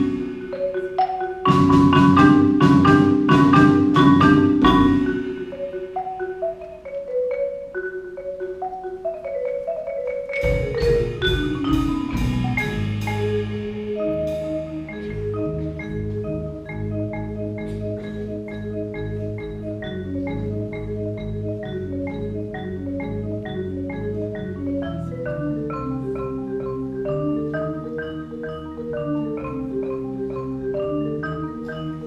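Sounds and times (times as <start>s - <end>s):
wooden mallet percussion music: 0.0s - 32.0s.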